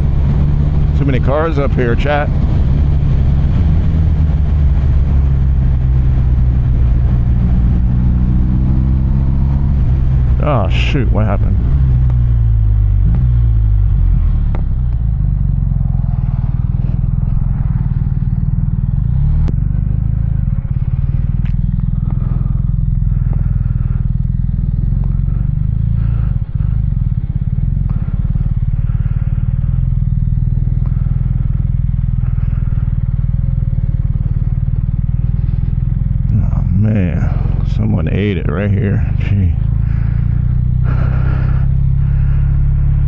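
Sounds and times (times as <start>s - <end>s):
motorcycle engine at low revs: 0.0s - 43.0s.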